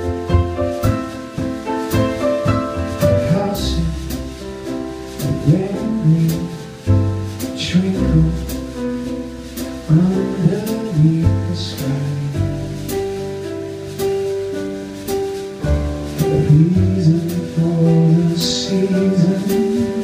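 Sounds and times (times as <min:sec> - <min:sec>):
piano trio playing: 0:00.0 - 0:20.0.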